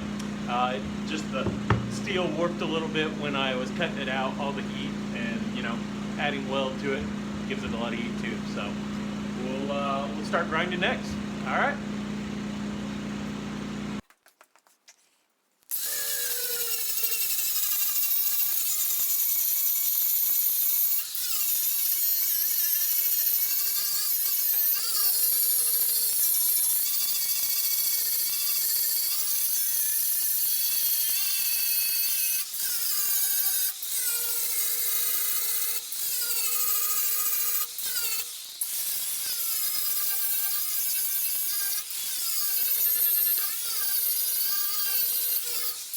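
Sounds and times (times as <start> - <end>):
power grinder grinding metal: 0.1 - 12.1, 15.7 - 45.9.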